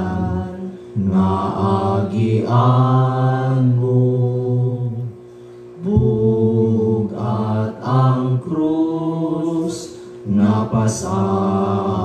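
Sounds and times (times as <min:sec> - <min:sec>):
man singing a hymn: 0:00.0 - 0:05.0, 0:05.8 - 0:12.0.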